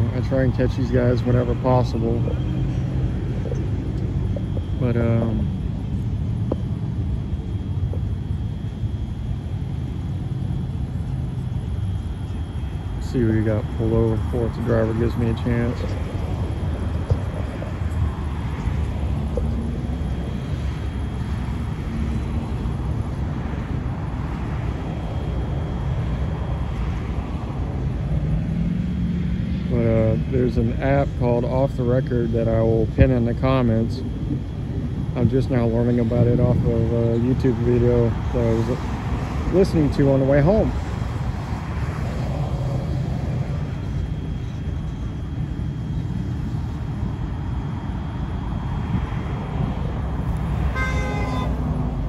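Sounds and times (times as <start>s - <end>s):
faint steady hum: 0.0s - 52.0s
motor vehicles rumbling: 0.0s - 52.0s.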